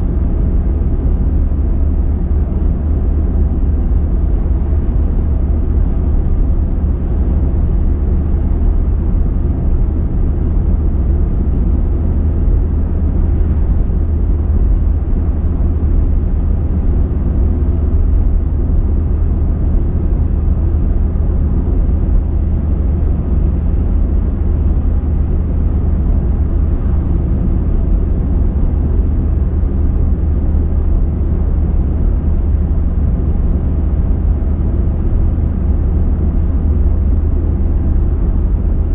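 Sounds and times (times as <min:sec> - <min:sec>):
car driving on road: 0:00.0 - 0:38.9.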